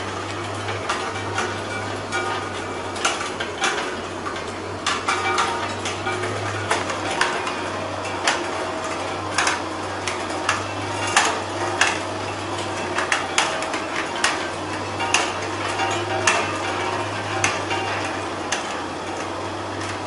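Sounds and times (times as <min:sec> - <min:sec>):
machine low hum: 0:00.0 - 0:20.0.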